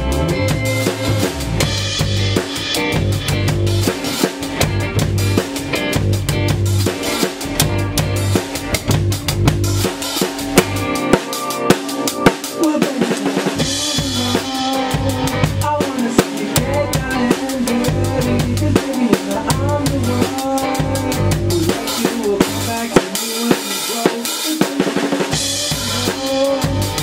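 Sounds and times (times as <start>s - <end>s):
electric bass riff: 0.0s - 22.9s, 25.3s - 27.0s
drum kit beat: 0.0s - 27.0s
electric guitars: 0.0s - 27.0s.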